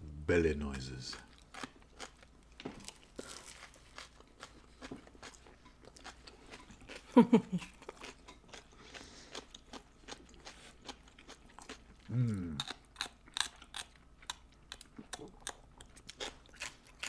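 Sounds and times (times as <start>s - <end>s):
close chewing with crunches: 1.1s - 17.0s.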